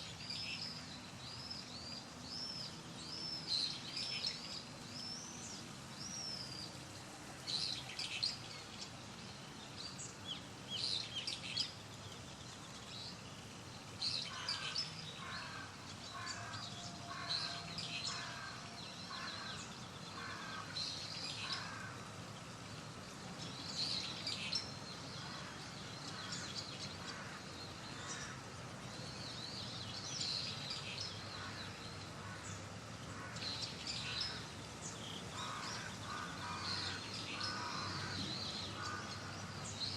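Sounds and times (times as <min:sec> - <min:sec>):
outdoor background hiss: 0:00.0 - 0:39.9
birds chirping and calling: 0:07.5 - 0:39.9.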